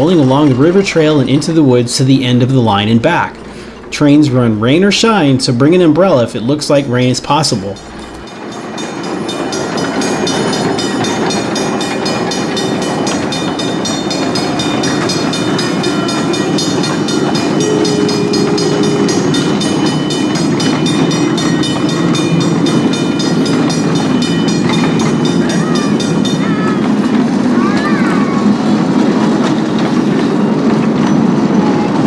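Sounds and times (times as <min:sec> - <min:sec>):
train wheels clattering on rail: 0:00.0 - 0:32.0.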